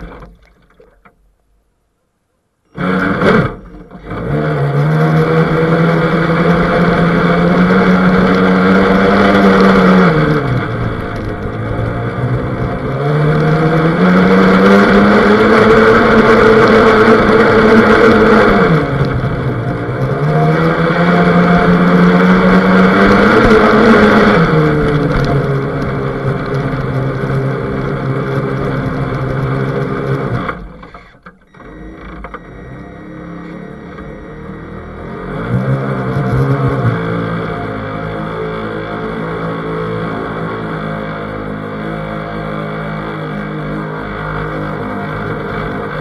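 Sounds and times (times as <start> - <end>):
model boat motor whining: 0.0 - 1.3, 2.7 - 46.0.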